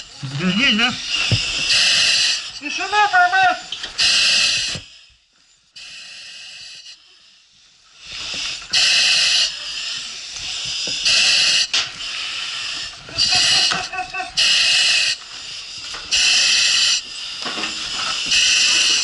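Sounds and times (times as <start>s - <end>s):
breathing apparatus hissing breaths: 0.0s - 19.0s.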